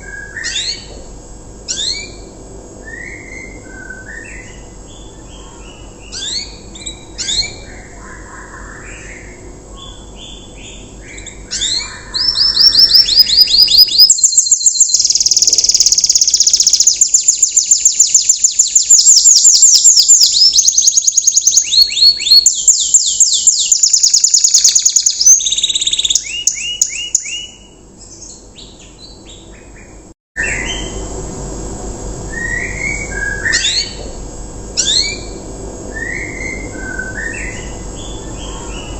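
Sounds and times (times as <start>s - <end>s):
canary singing: 0.0s - 1.0s, 1.6s - 31.0s, 32.3s - 34.2s, 34.8s - 38.9s.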